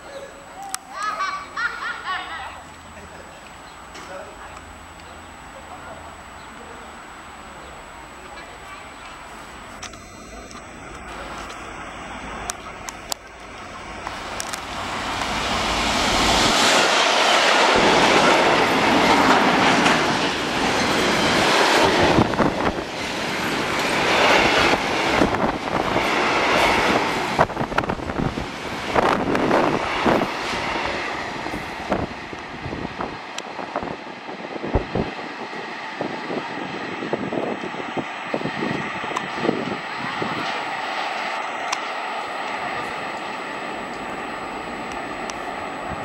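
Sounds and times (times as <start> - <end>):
diesel locomotive engine: 0.0 - 46.0.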